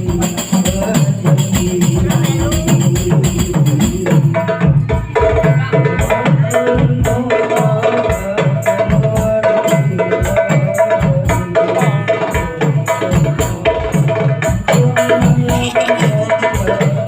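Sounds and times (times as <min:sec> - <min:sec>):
frame drums beating: 0:00.0 - 0:17.0.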